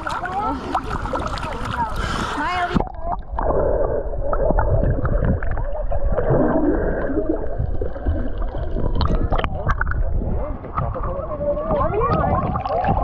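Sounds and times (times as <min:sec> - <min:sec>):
low underwater rumble: 0:00.0 - 0:13.0
underwater gurgling and bubbles: 0:00.0 - 0:13.0.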